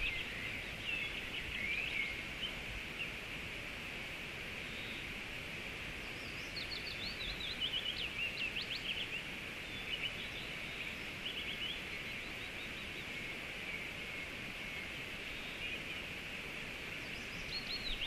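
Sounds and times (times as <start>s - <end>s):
rushing river: 0.0s - 18.0s
songbird chirping: 0.0s - 18.0s.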